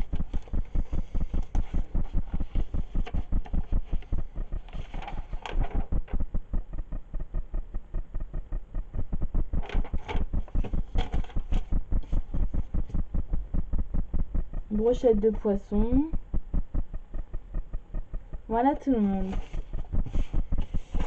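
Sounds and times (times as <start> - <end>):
rapid dull thumping: 0.0 - 21.0.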